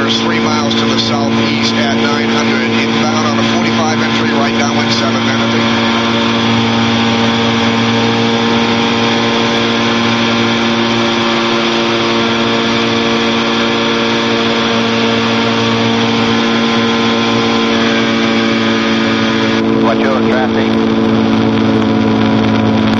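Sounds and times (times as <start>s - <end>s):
aircraft engine and propeller droning: 0.0s - 22.9s.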